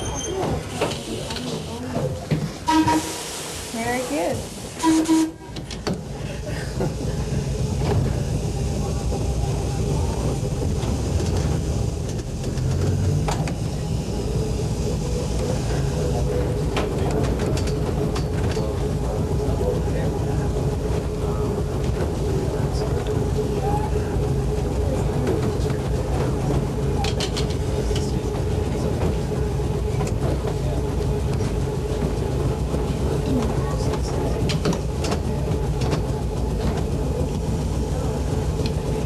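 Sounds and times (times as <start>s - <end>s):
trolley car rumbling on track: 0.0s - 39.0s.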